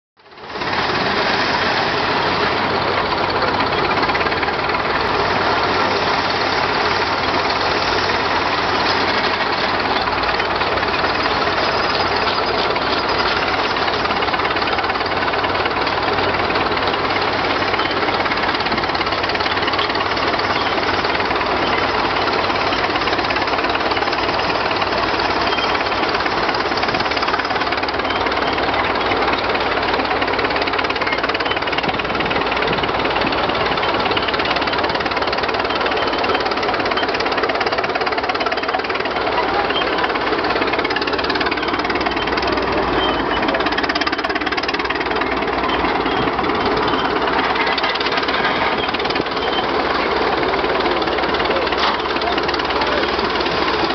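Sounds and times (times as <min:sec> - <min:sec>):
mechanical engine rattle: 0:00.2 - 0:53.9.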